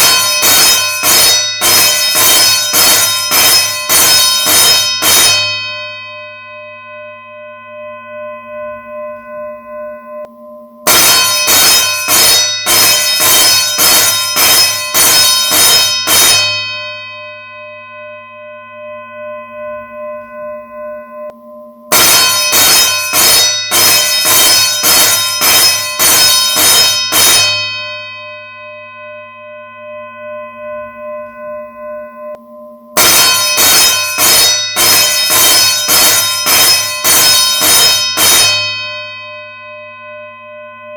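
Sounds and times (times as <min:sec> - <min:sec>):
school bell ringing: 0:00.0 - 0:09.3, 0:10.9 - 0:20.4, 0:21.9 - 0:32.2, 0:33.0 - 0:40.9.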